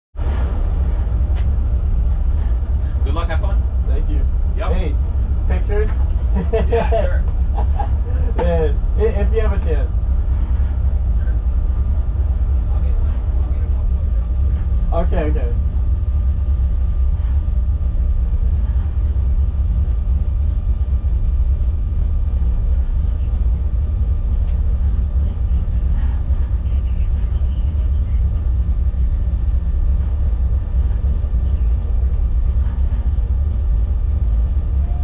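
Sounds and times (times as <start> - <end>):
car engine idling: 0.1 - 35.0.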